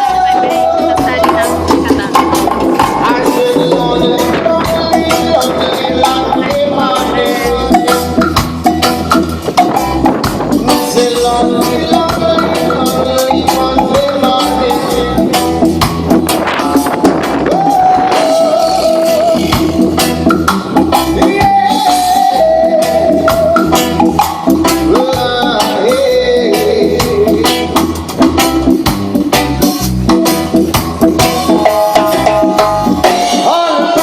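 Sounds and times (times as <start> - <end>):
drum kit beat: 0.0 - 34.0
live band playing: 0.0 - 34.0.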